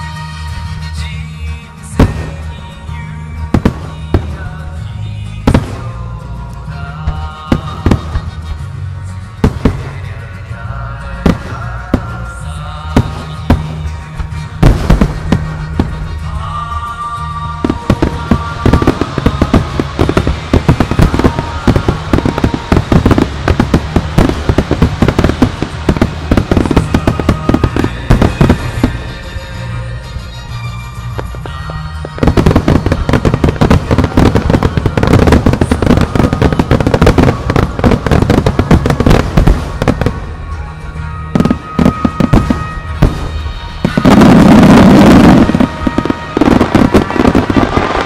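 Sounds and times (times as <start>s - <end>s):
firework crackle: 0.0s - 48.0s
music: 0.0s - 48.0s
firework bangs: 3.4s - 6.1s, 7.0s - 8.6s, 9.3s - 10.3s, 11.2s - 29.6s, 31.2s - 40.5s, 41.3s - 48.0s.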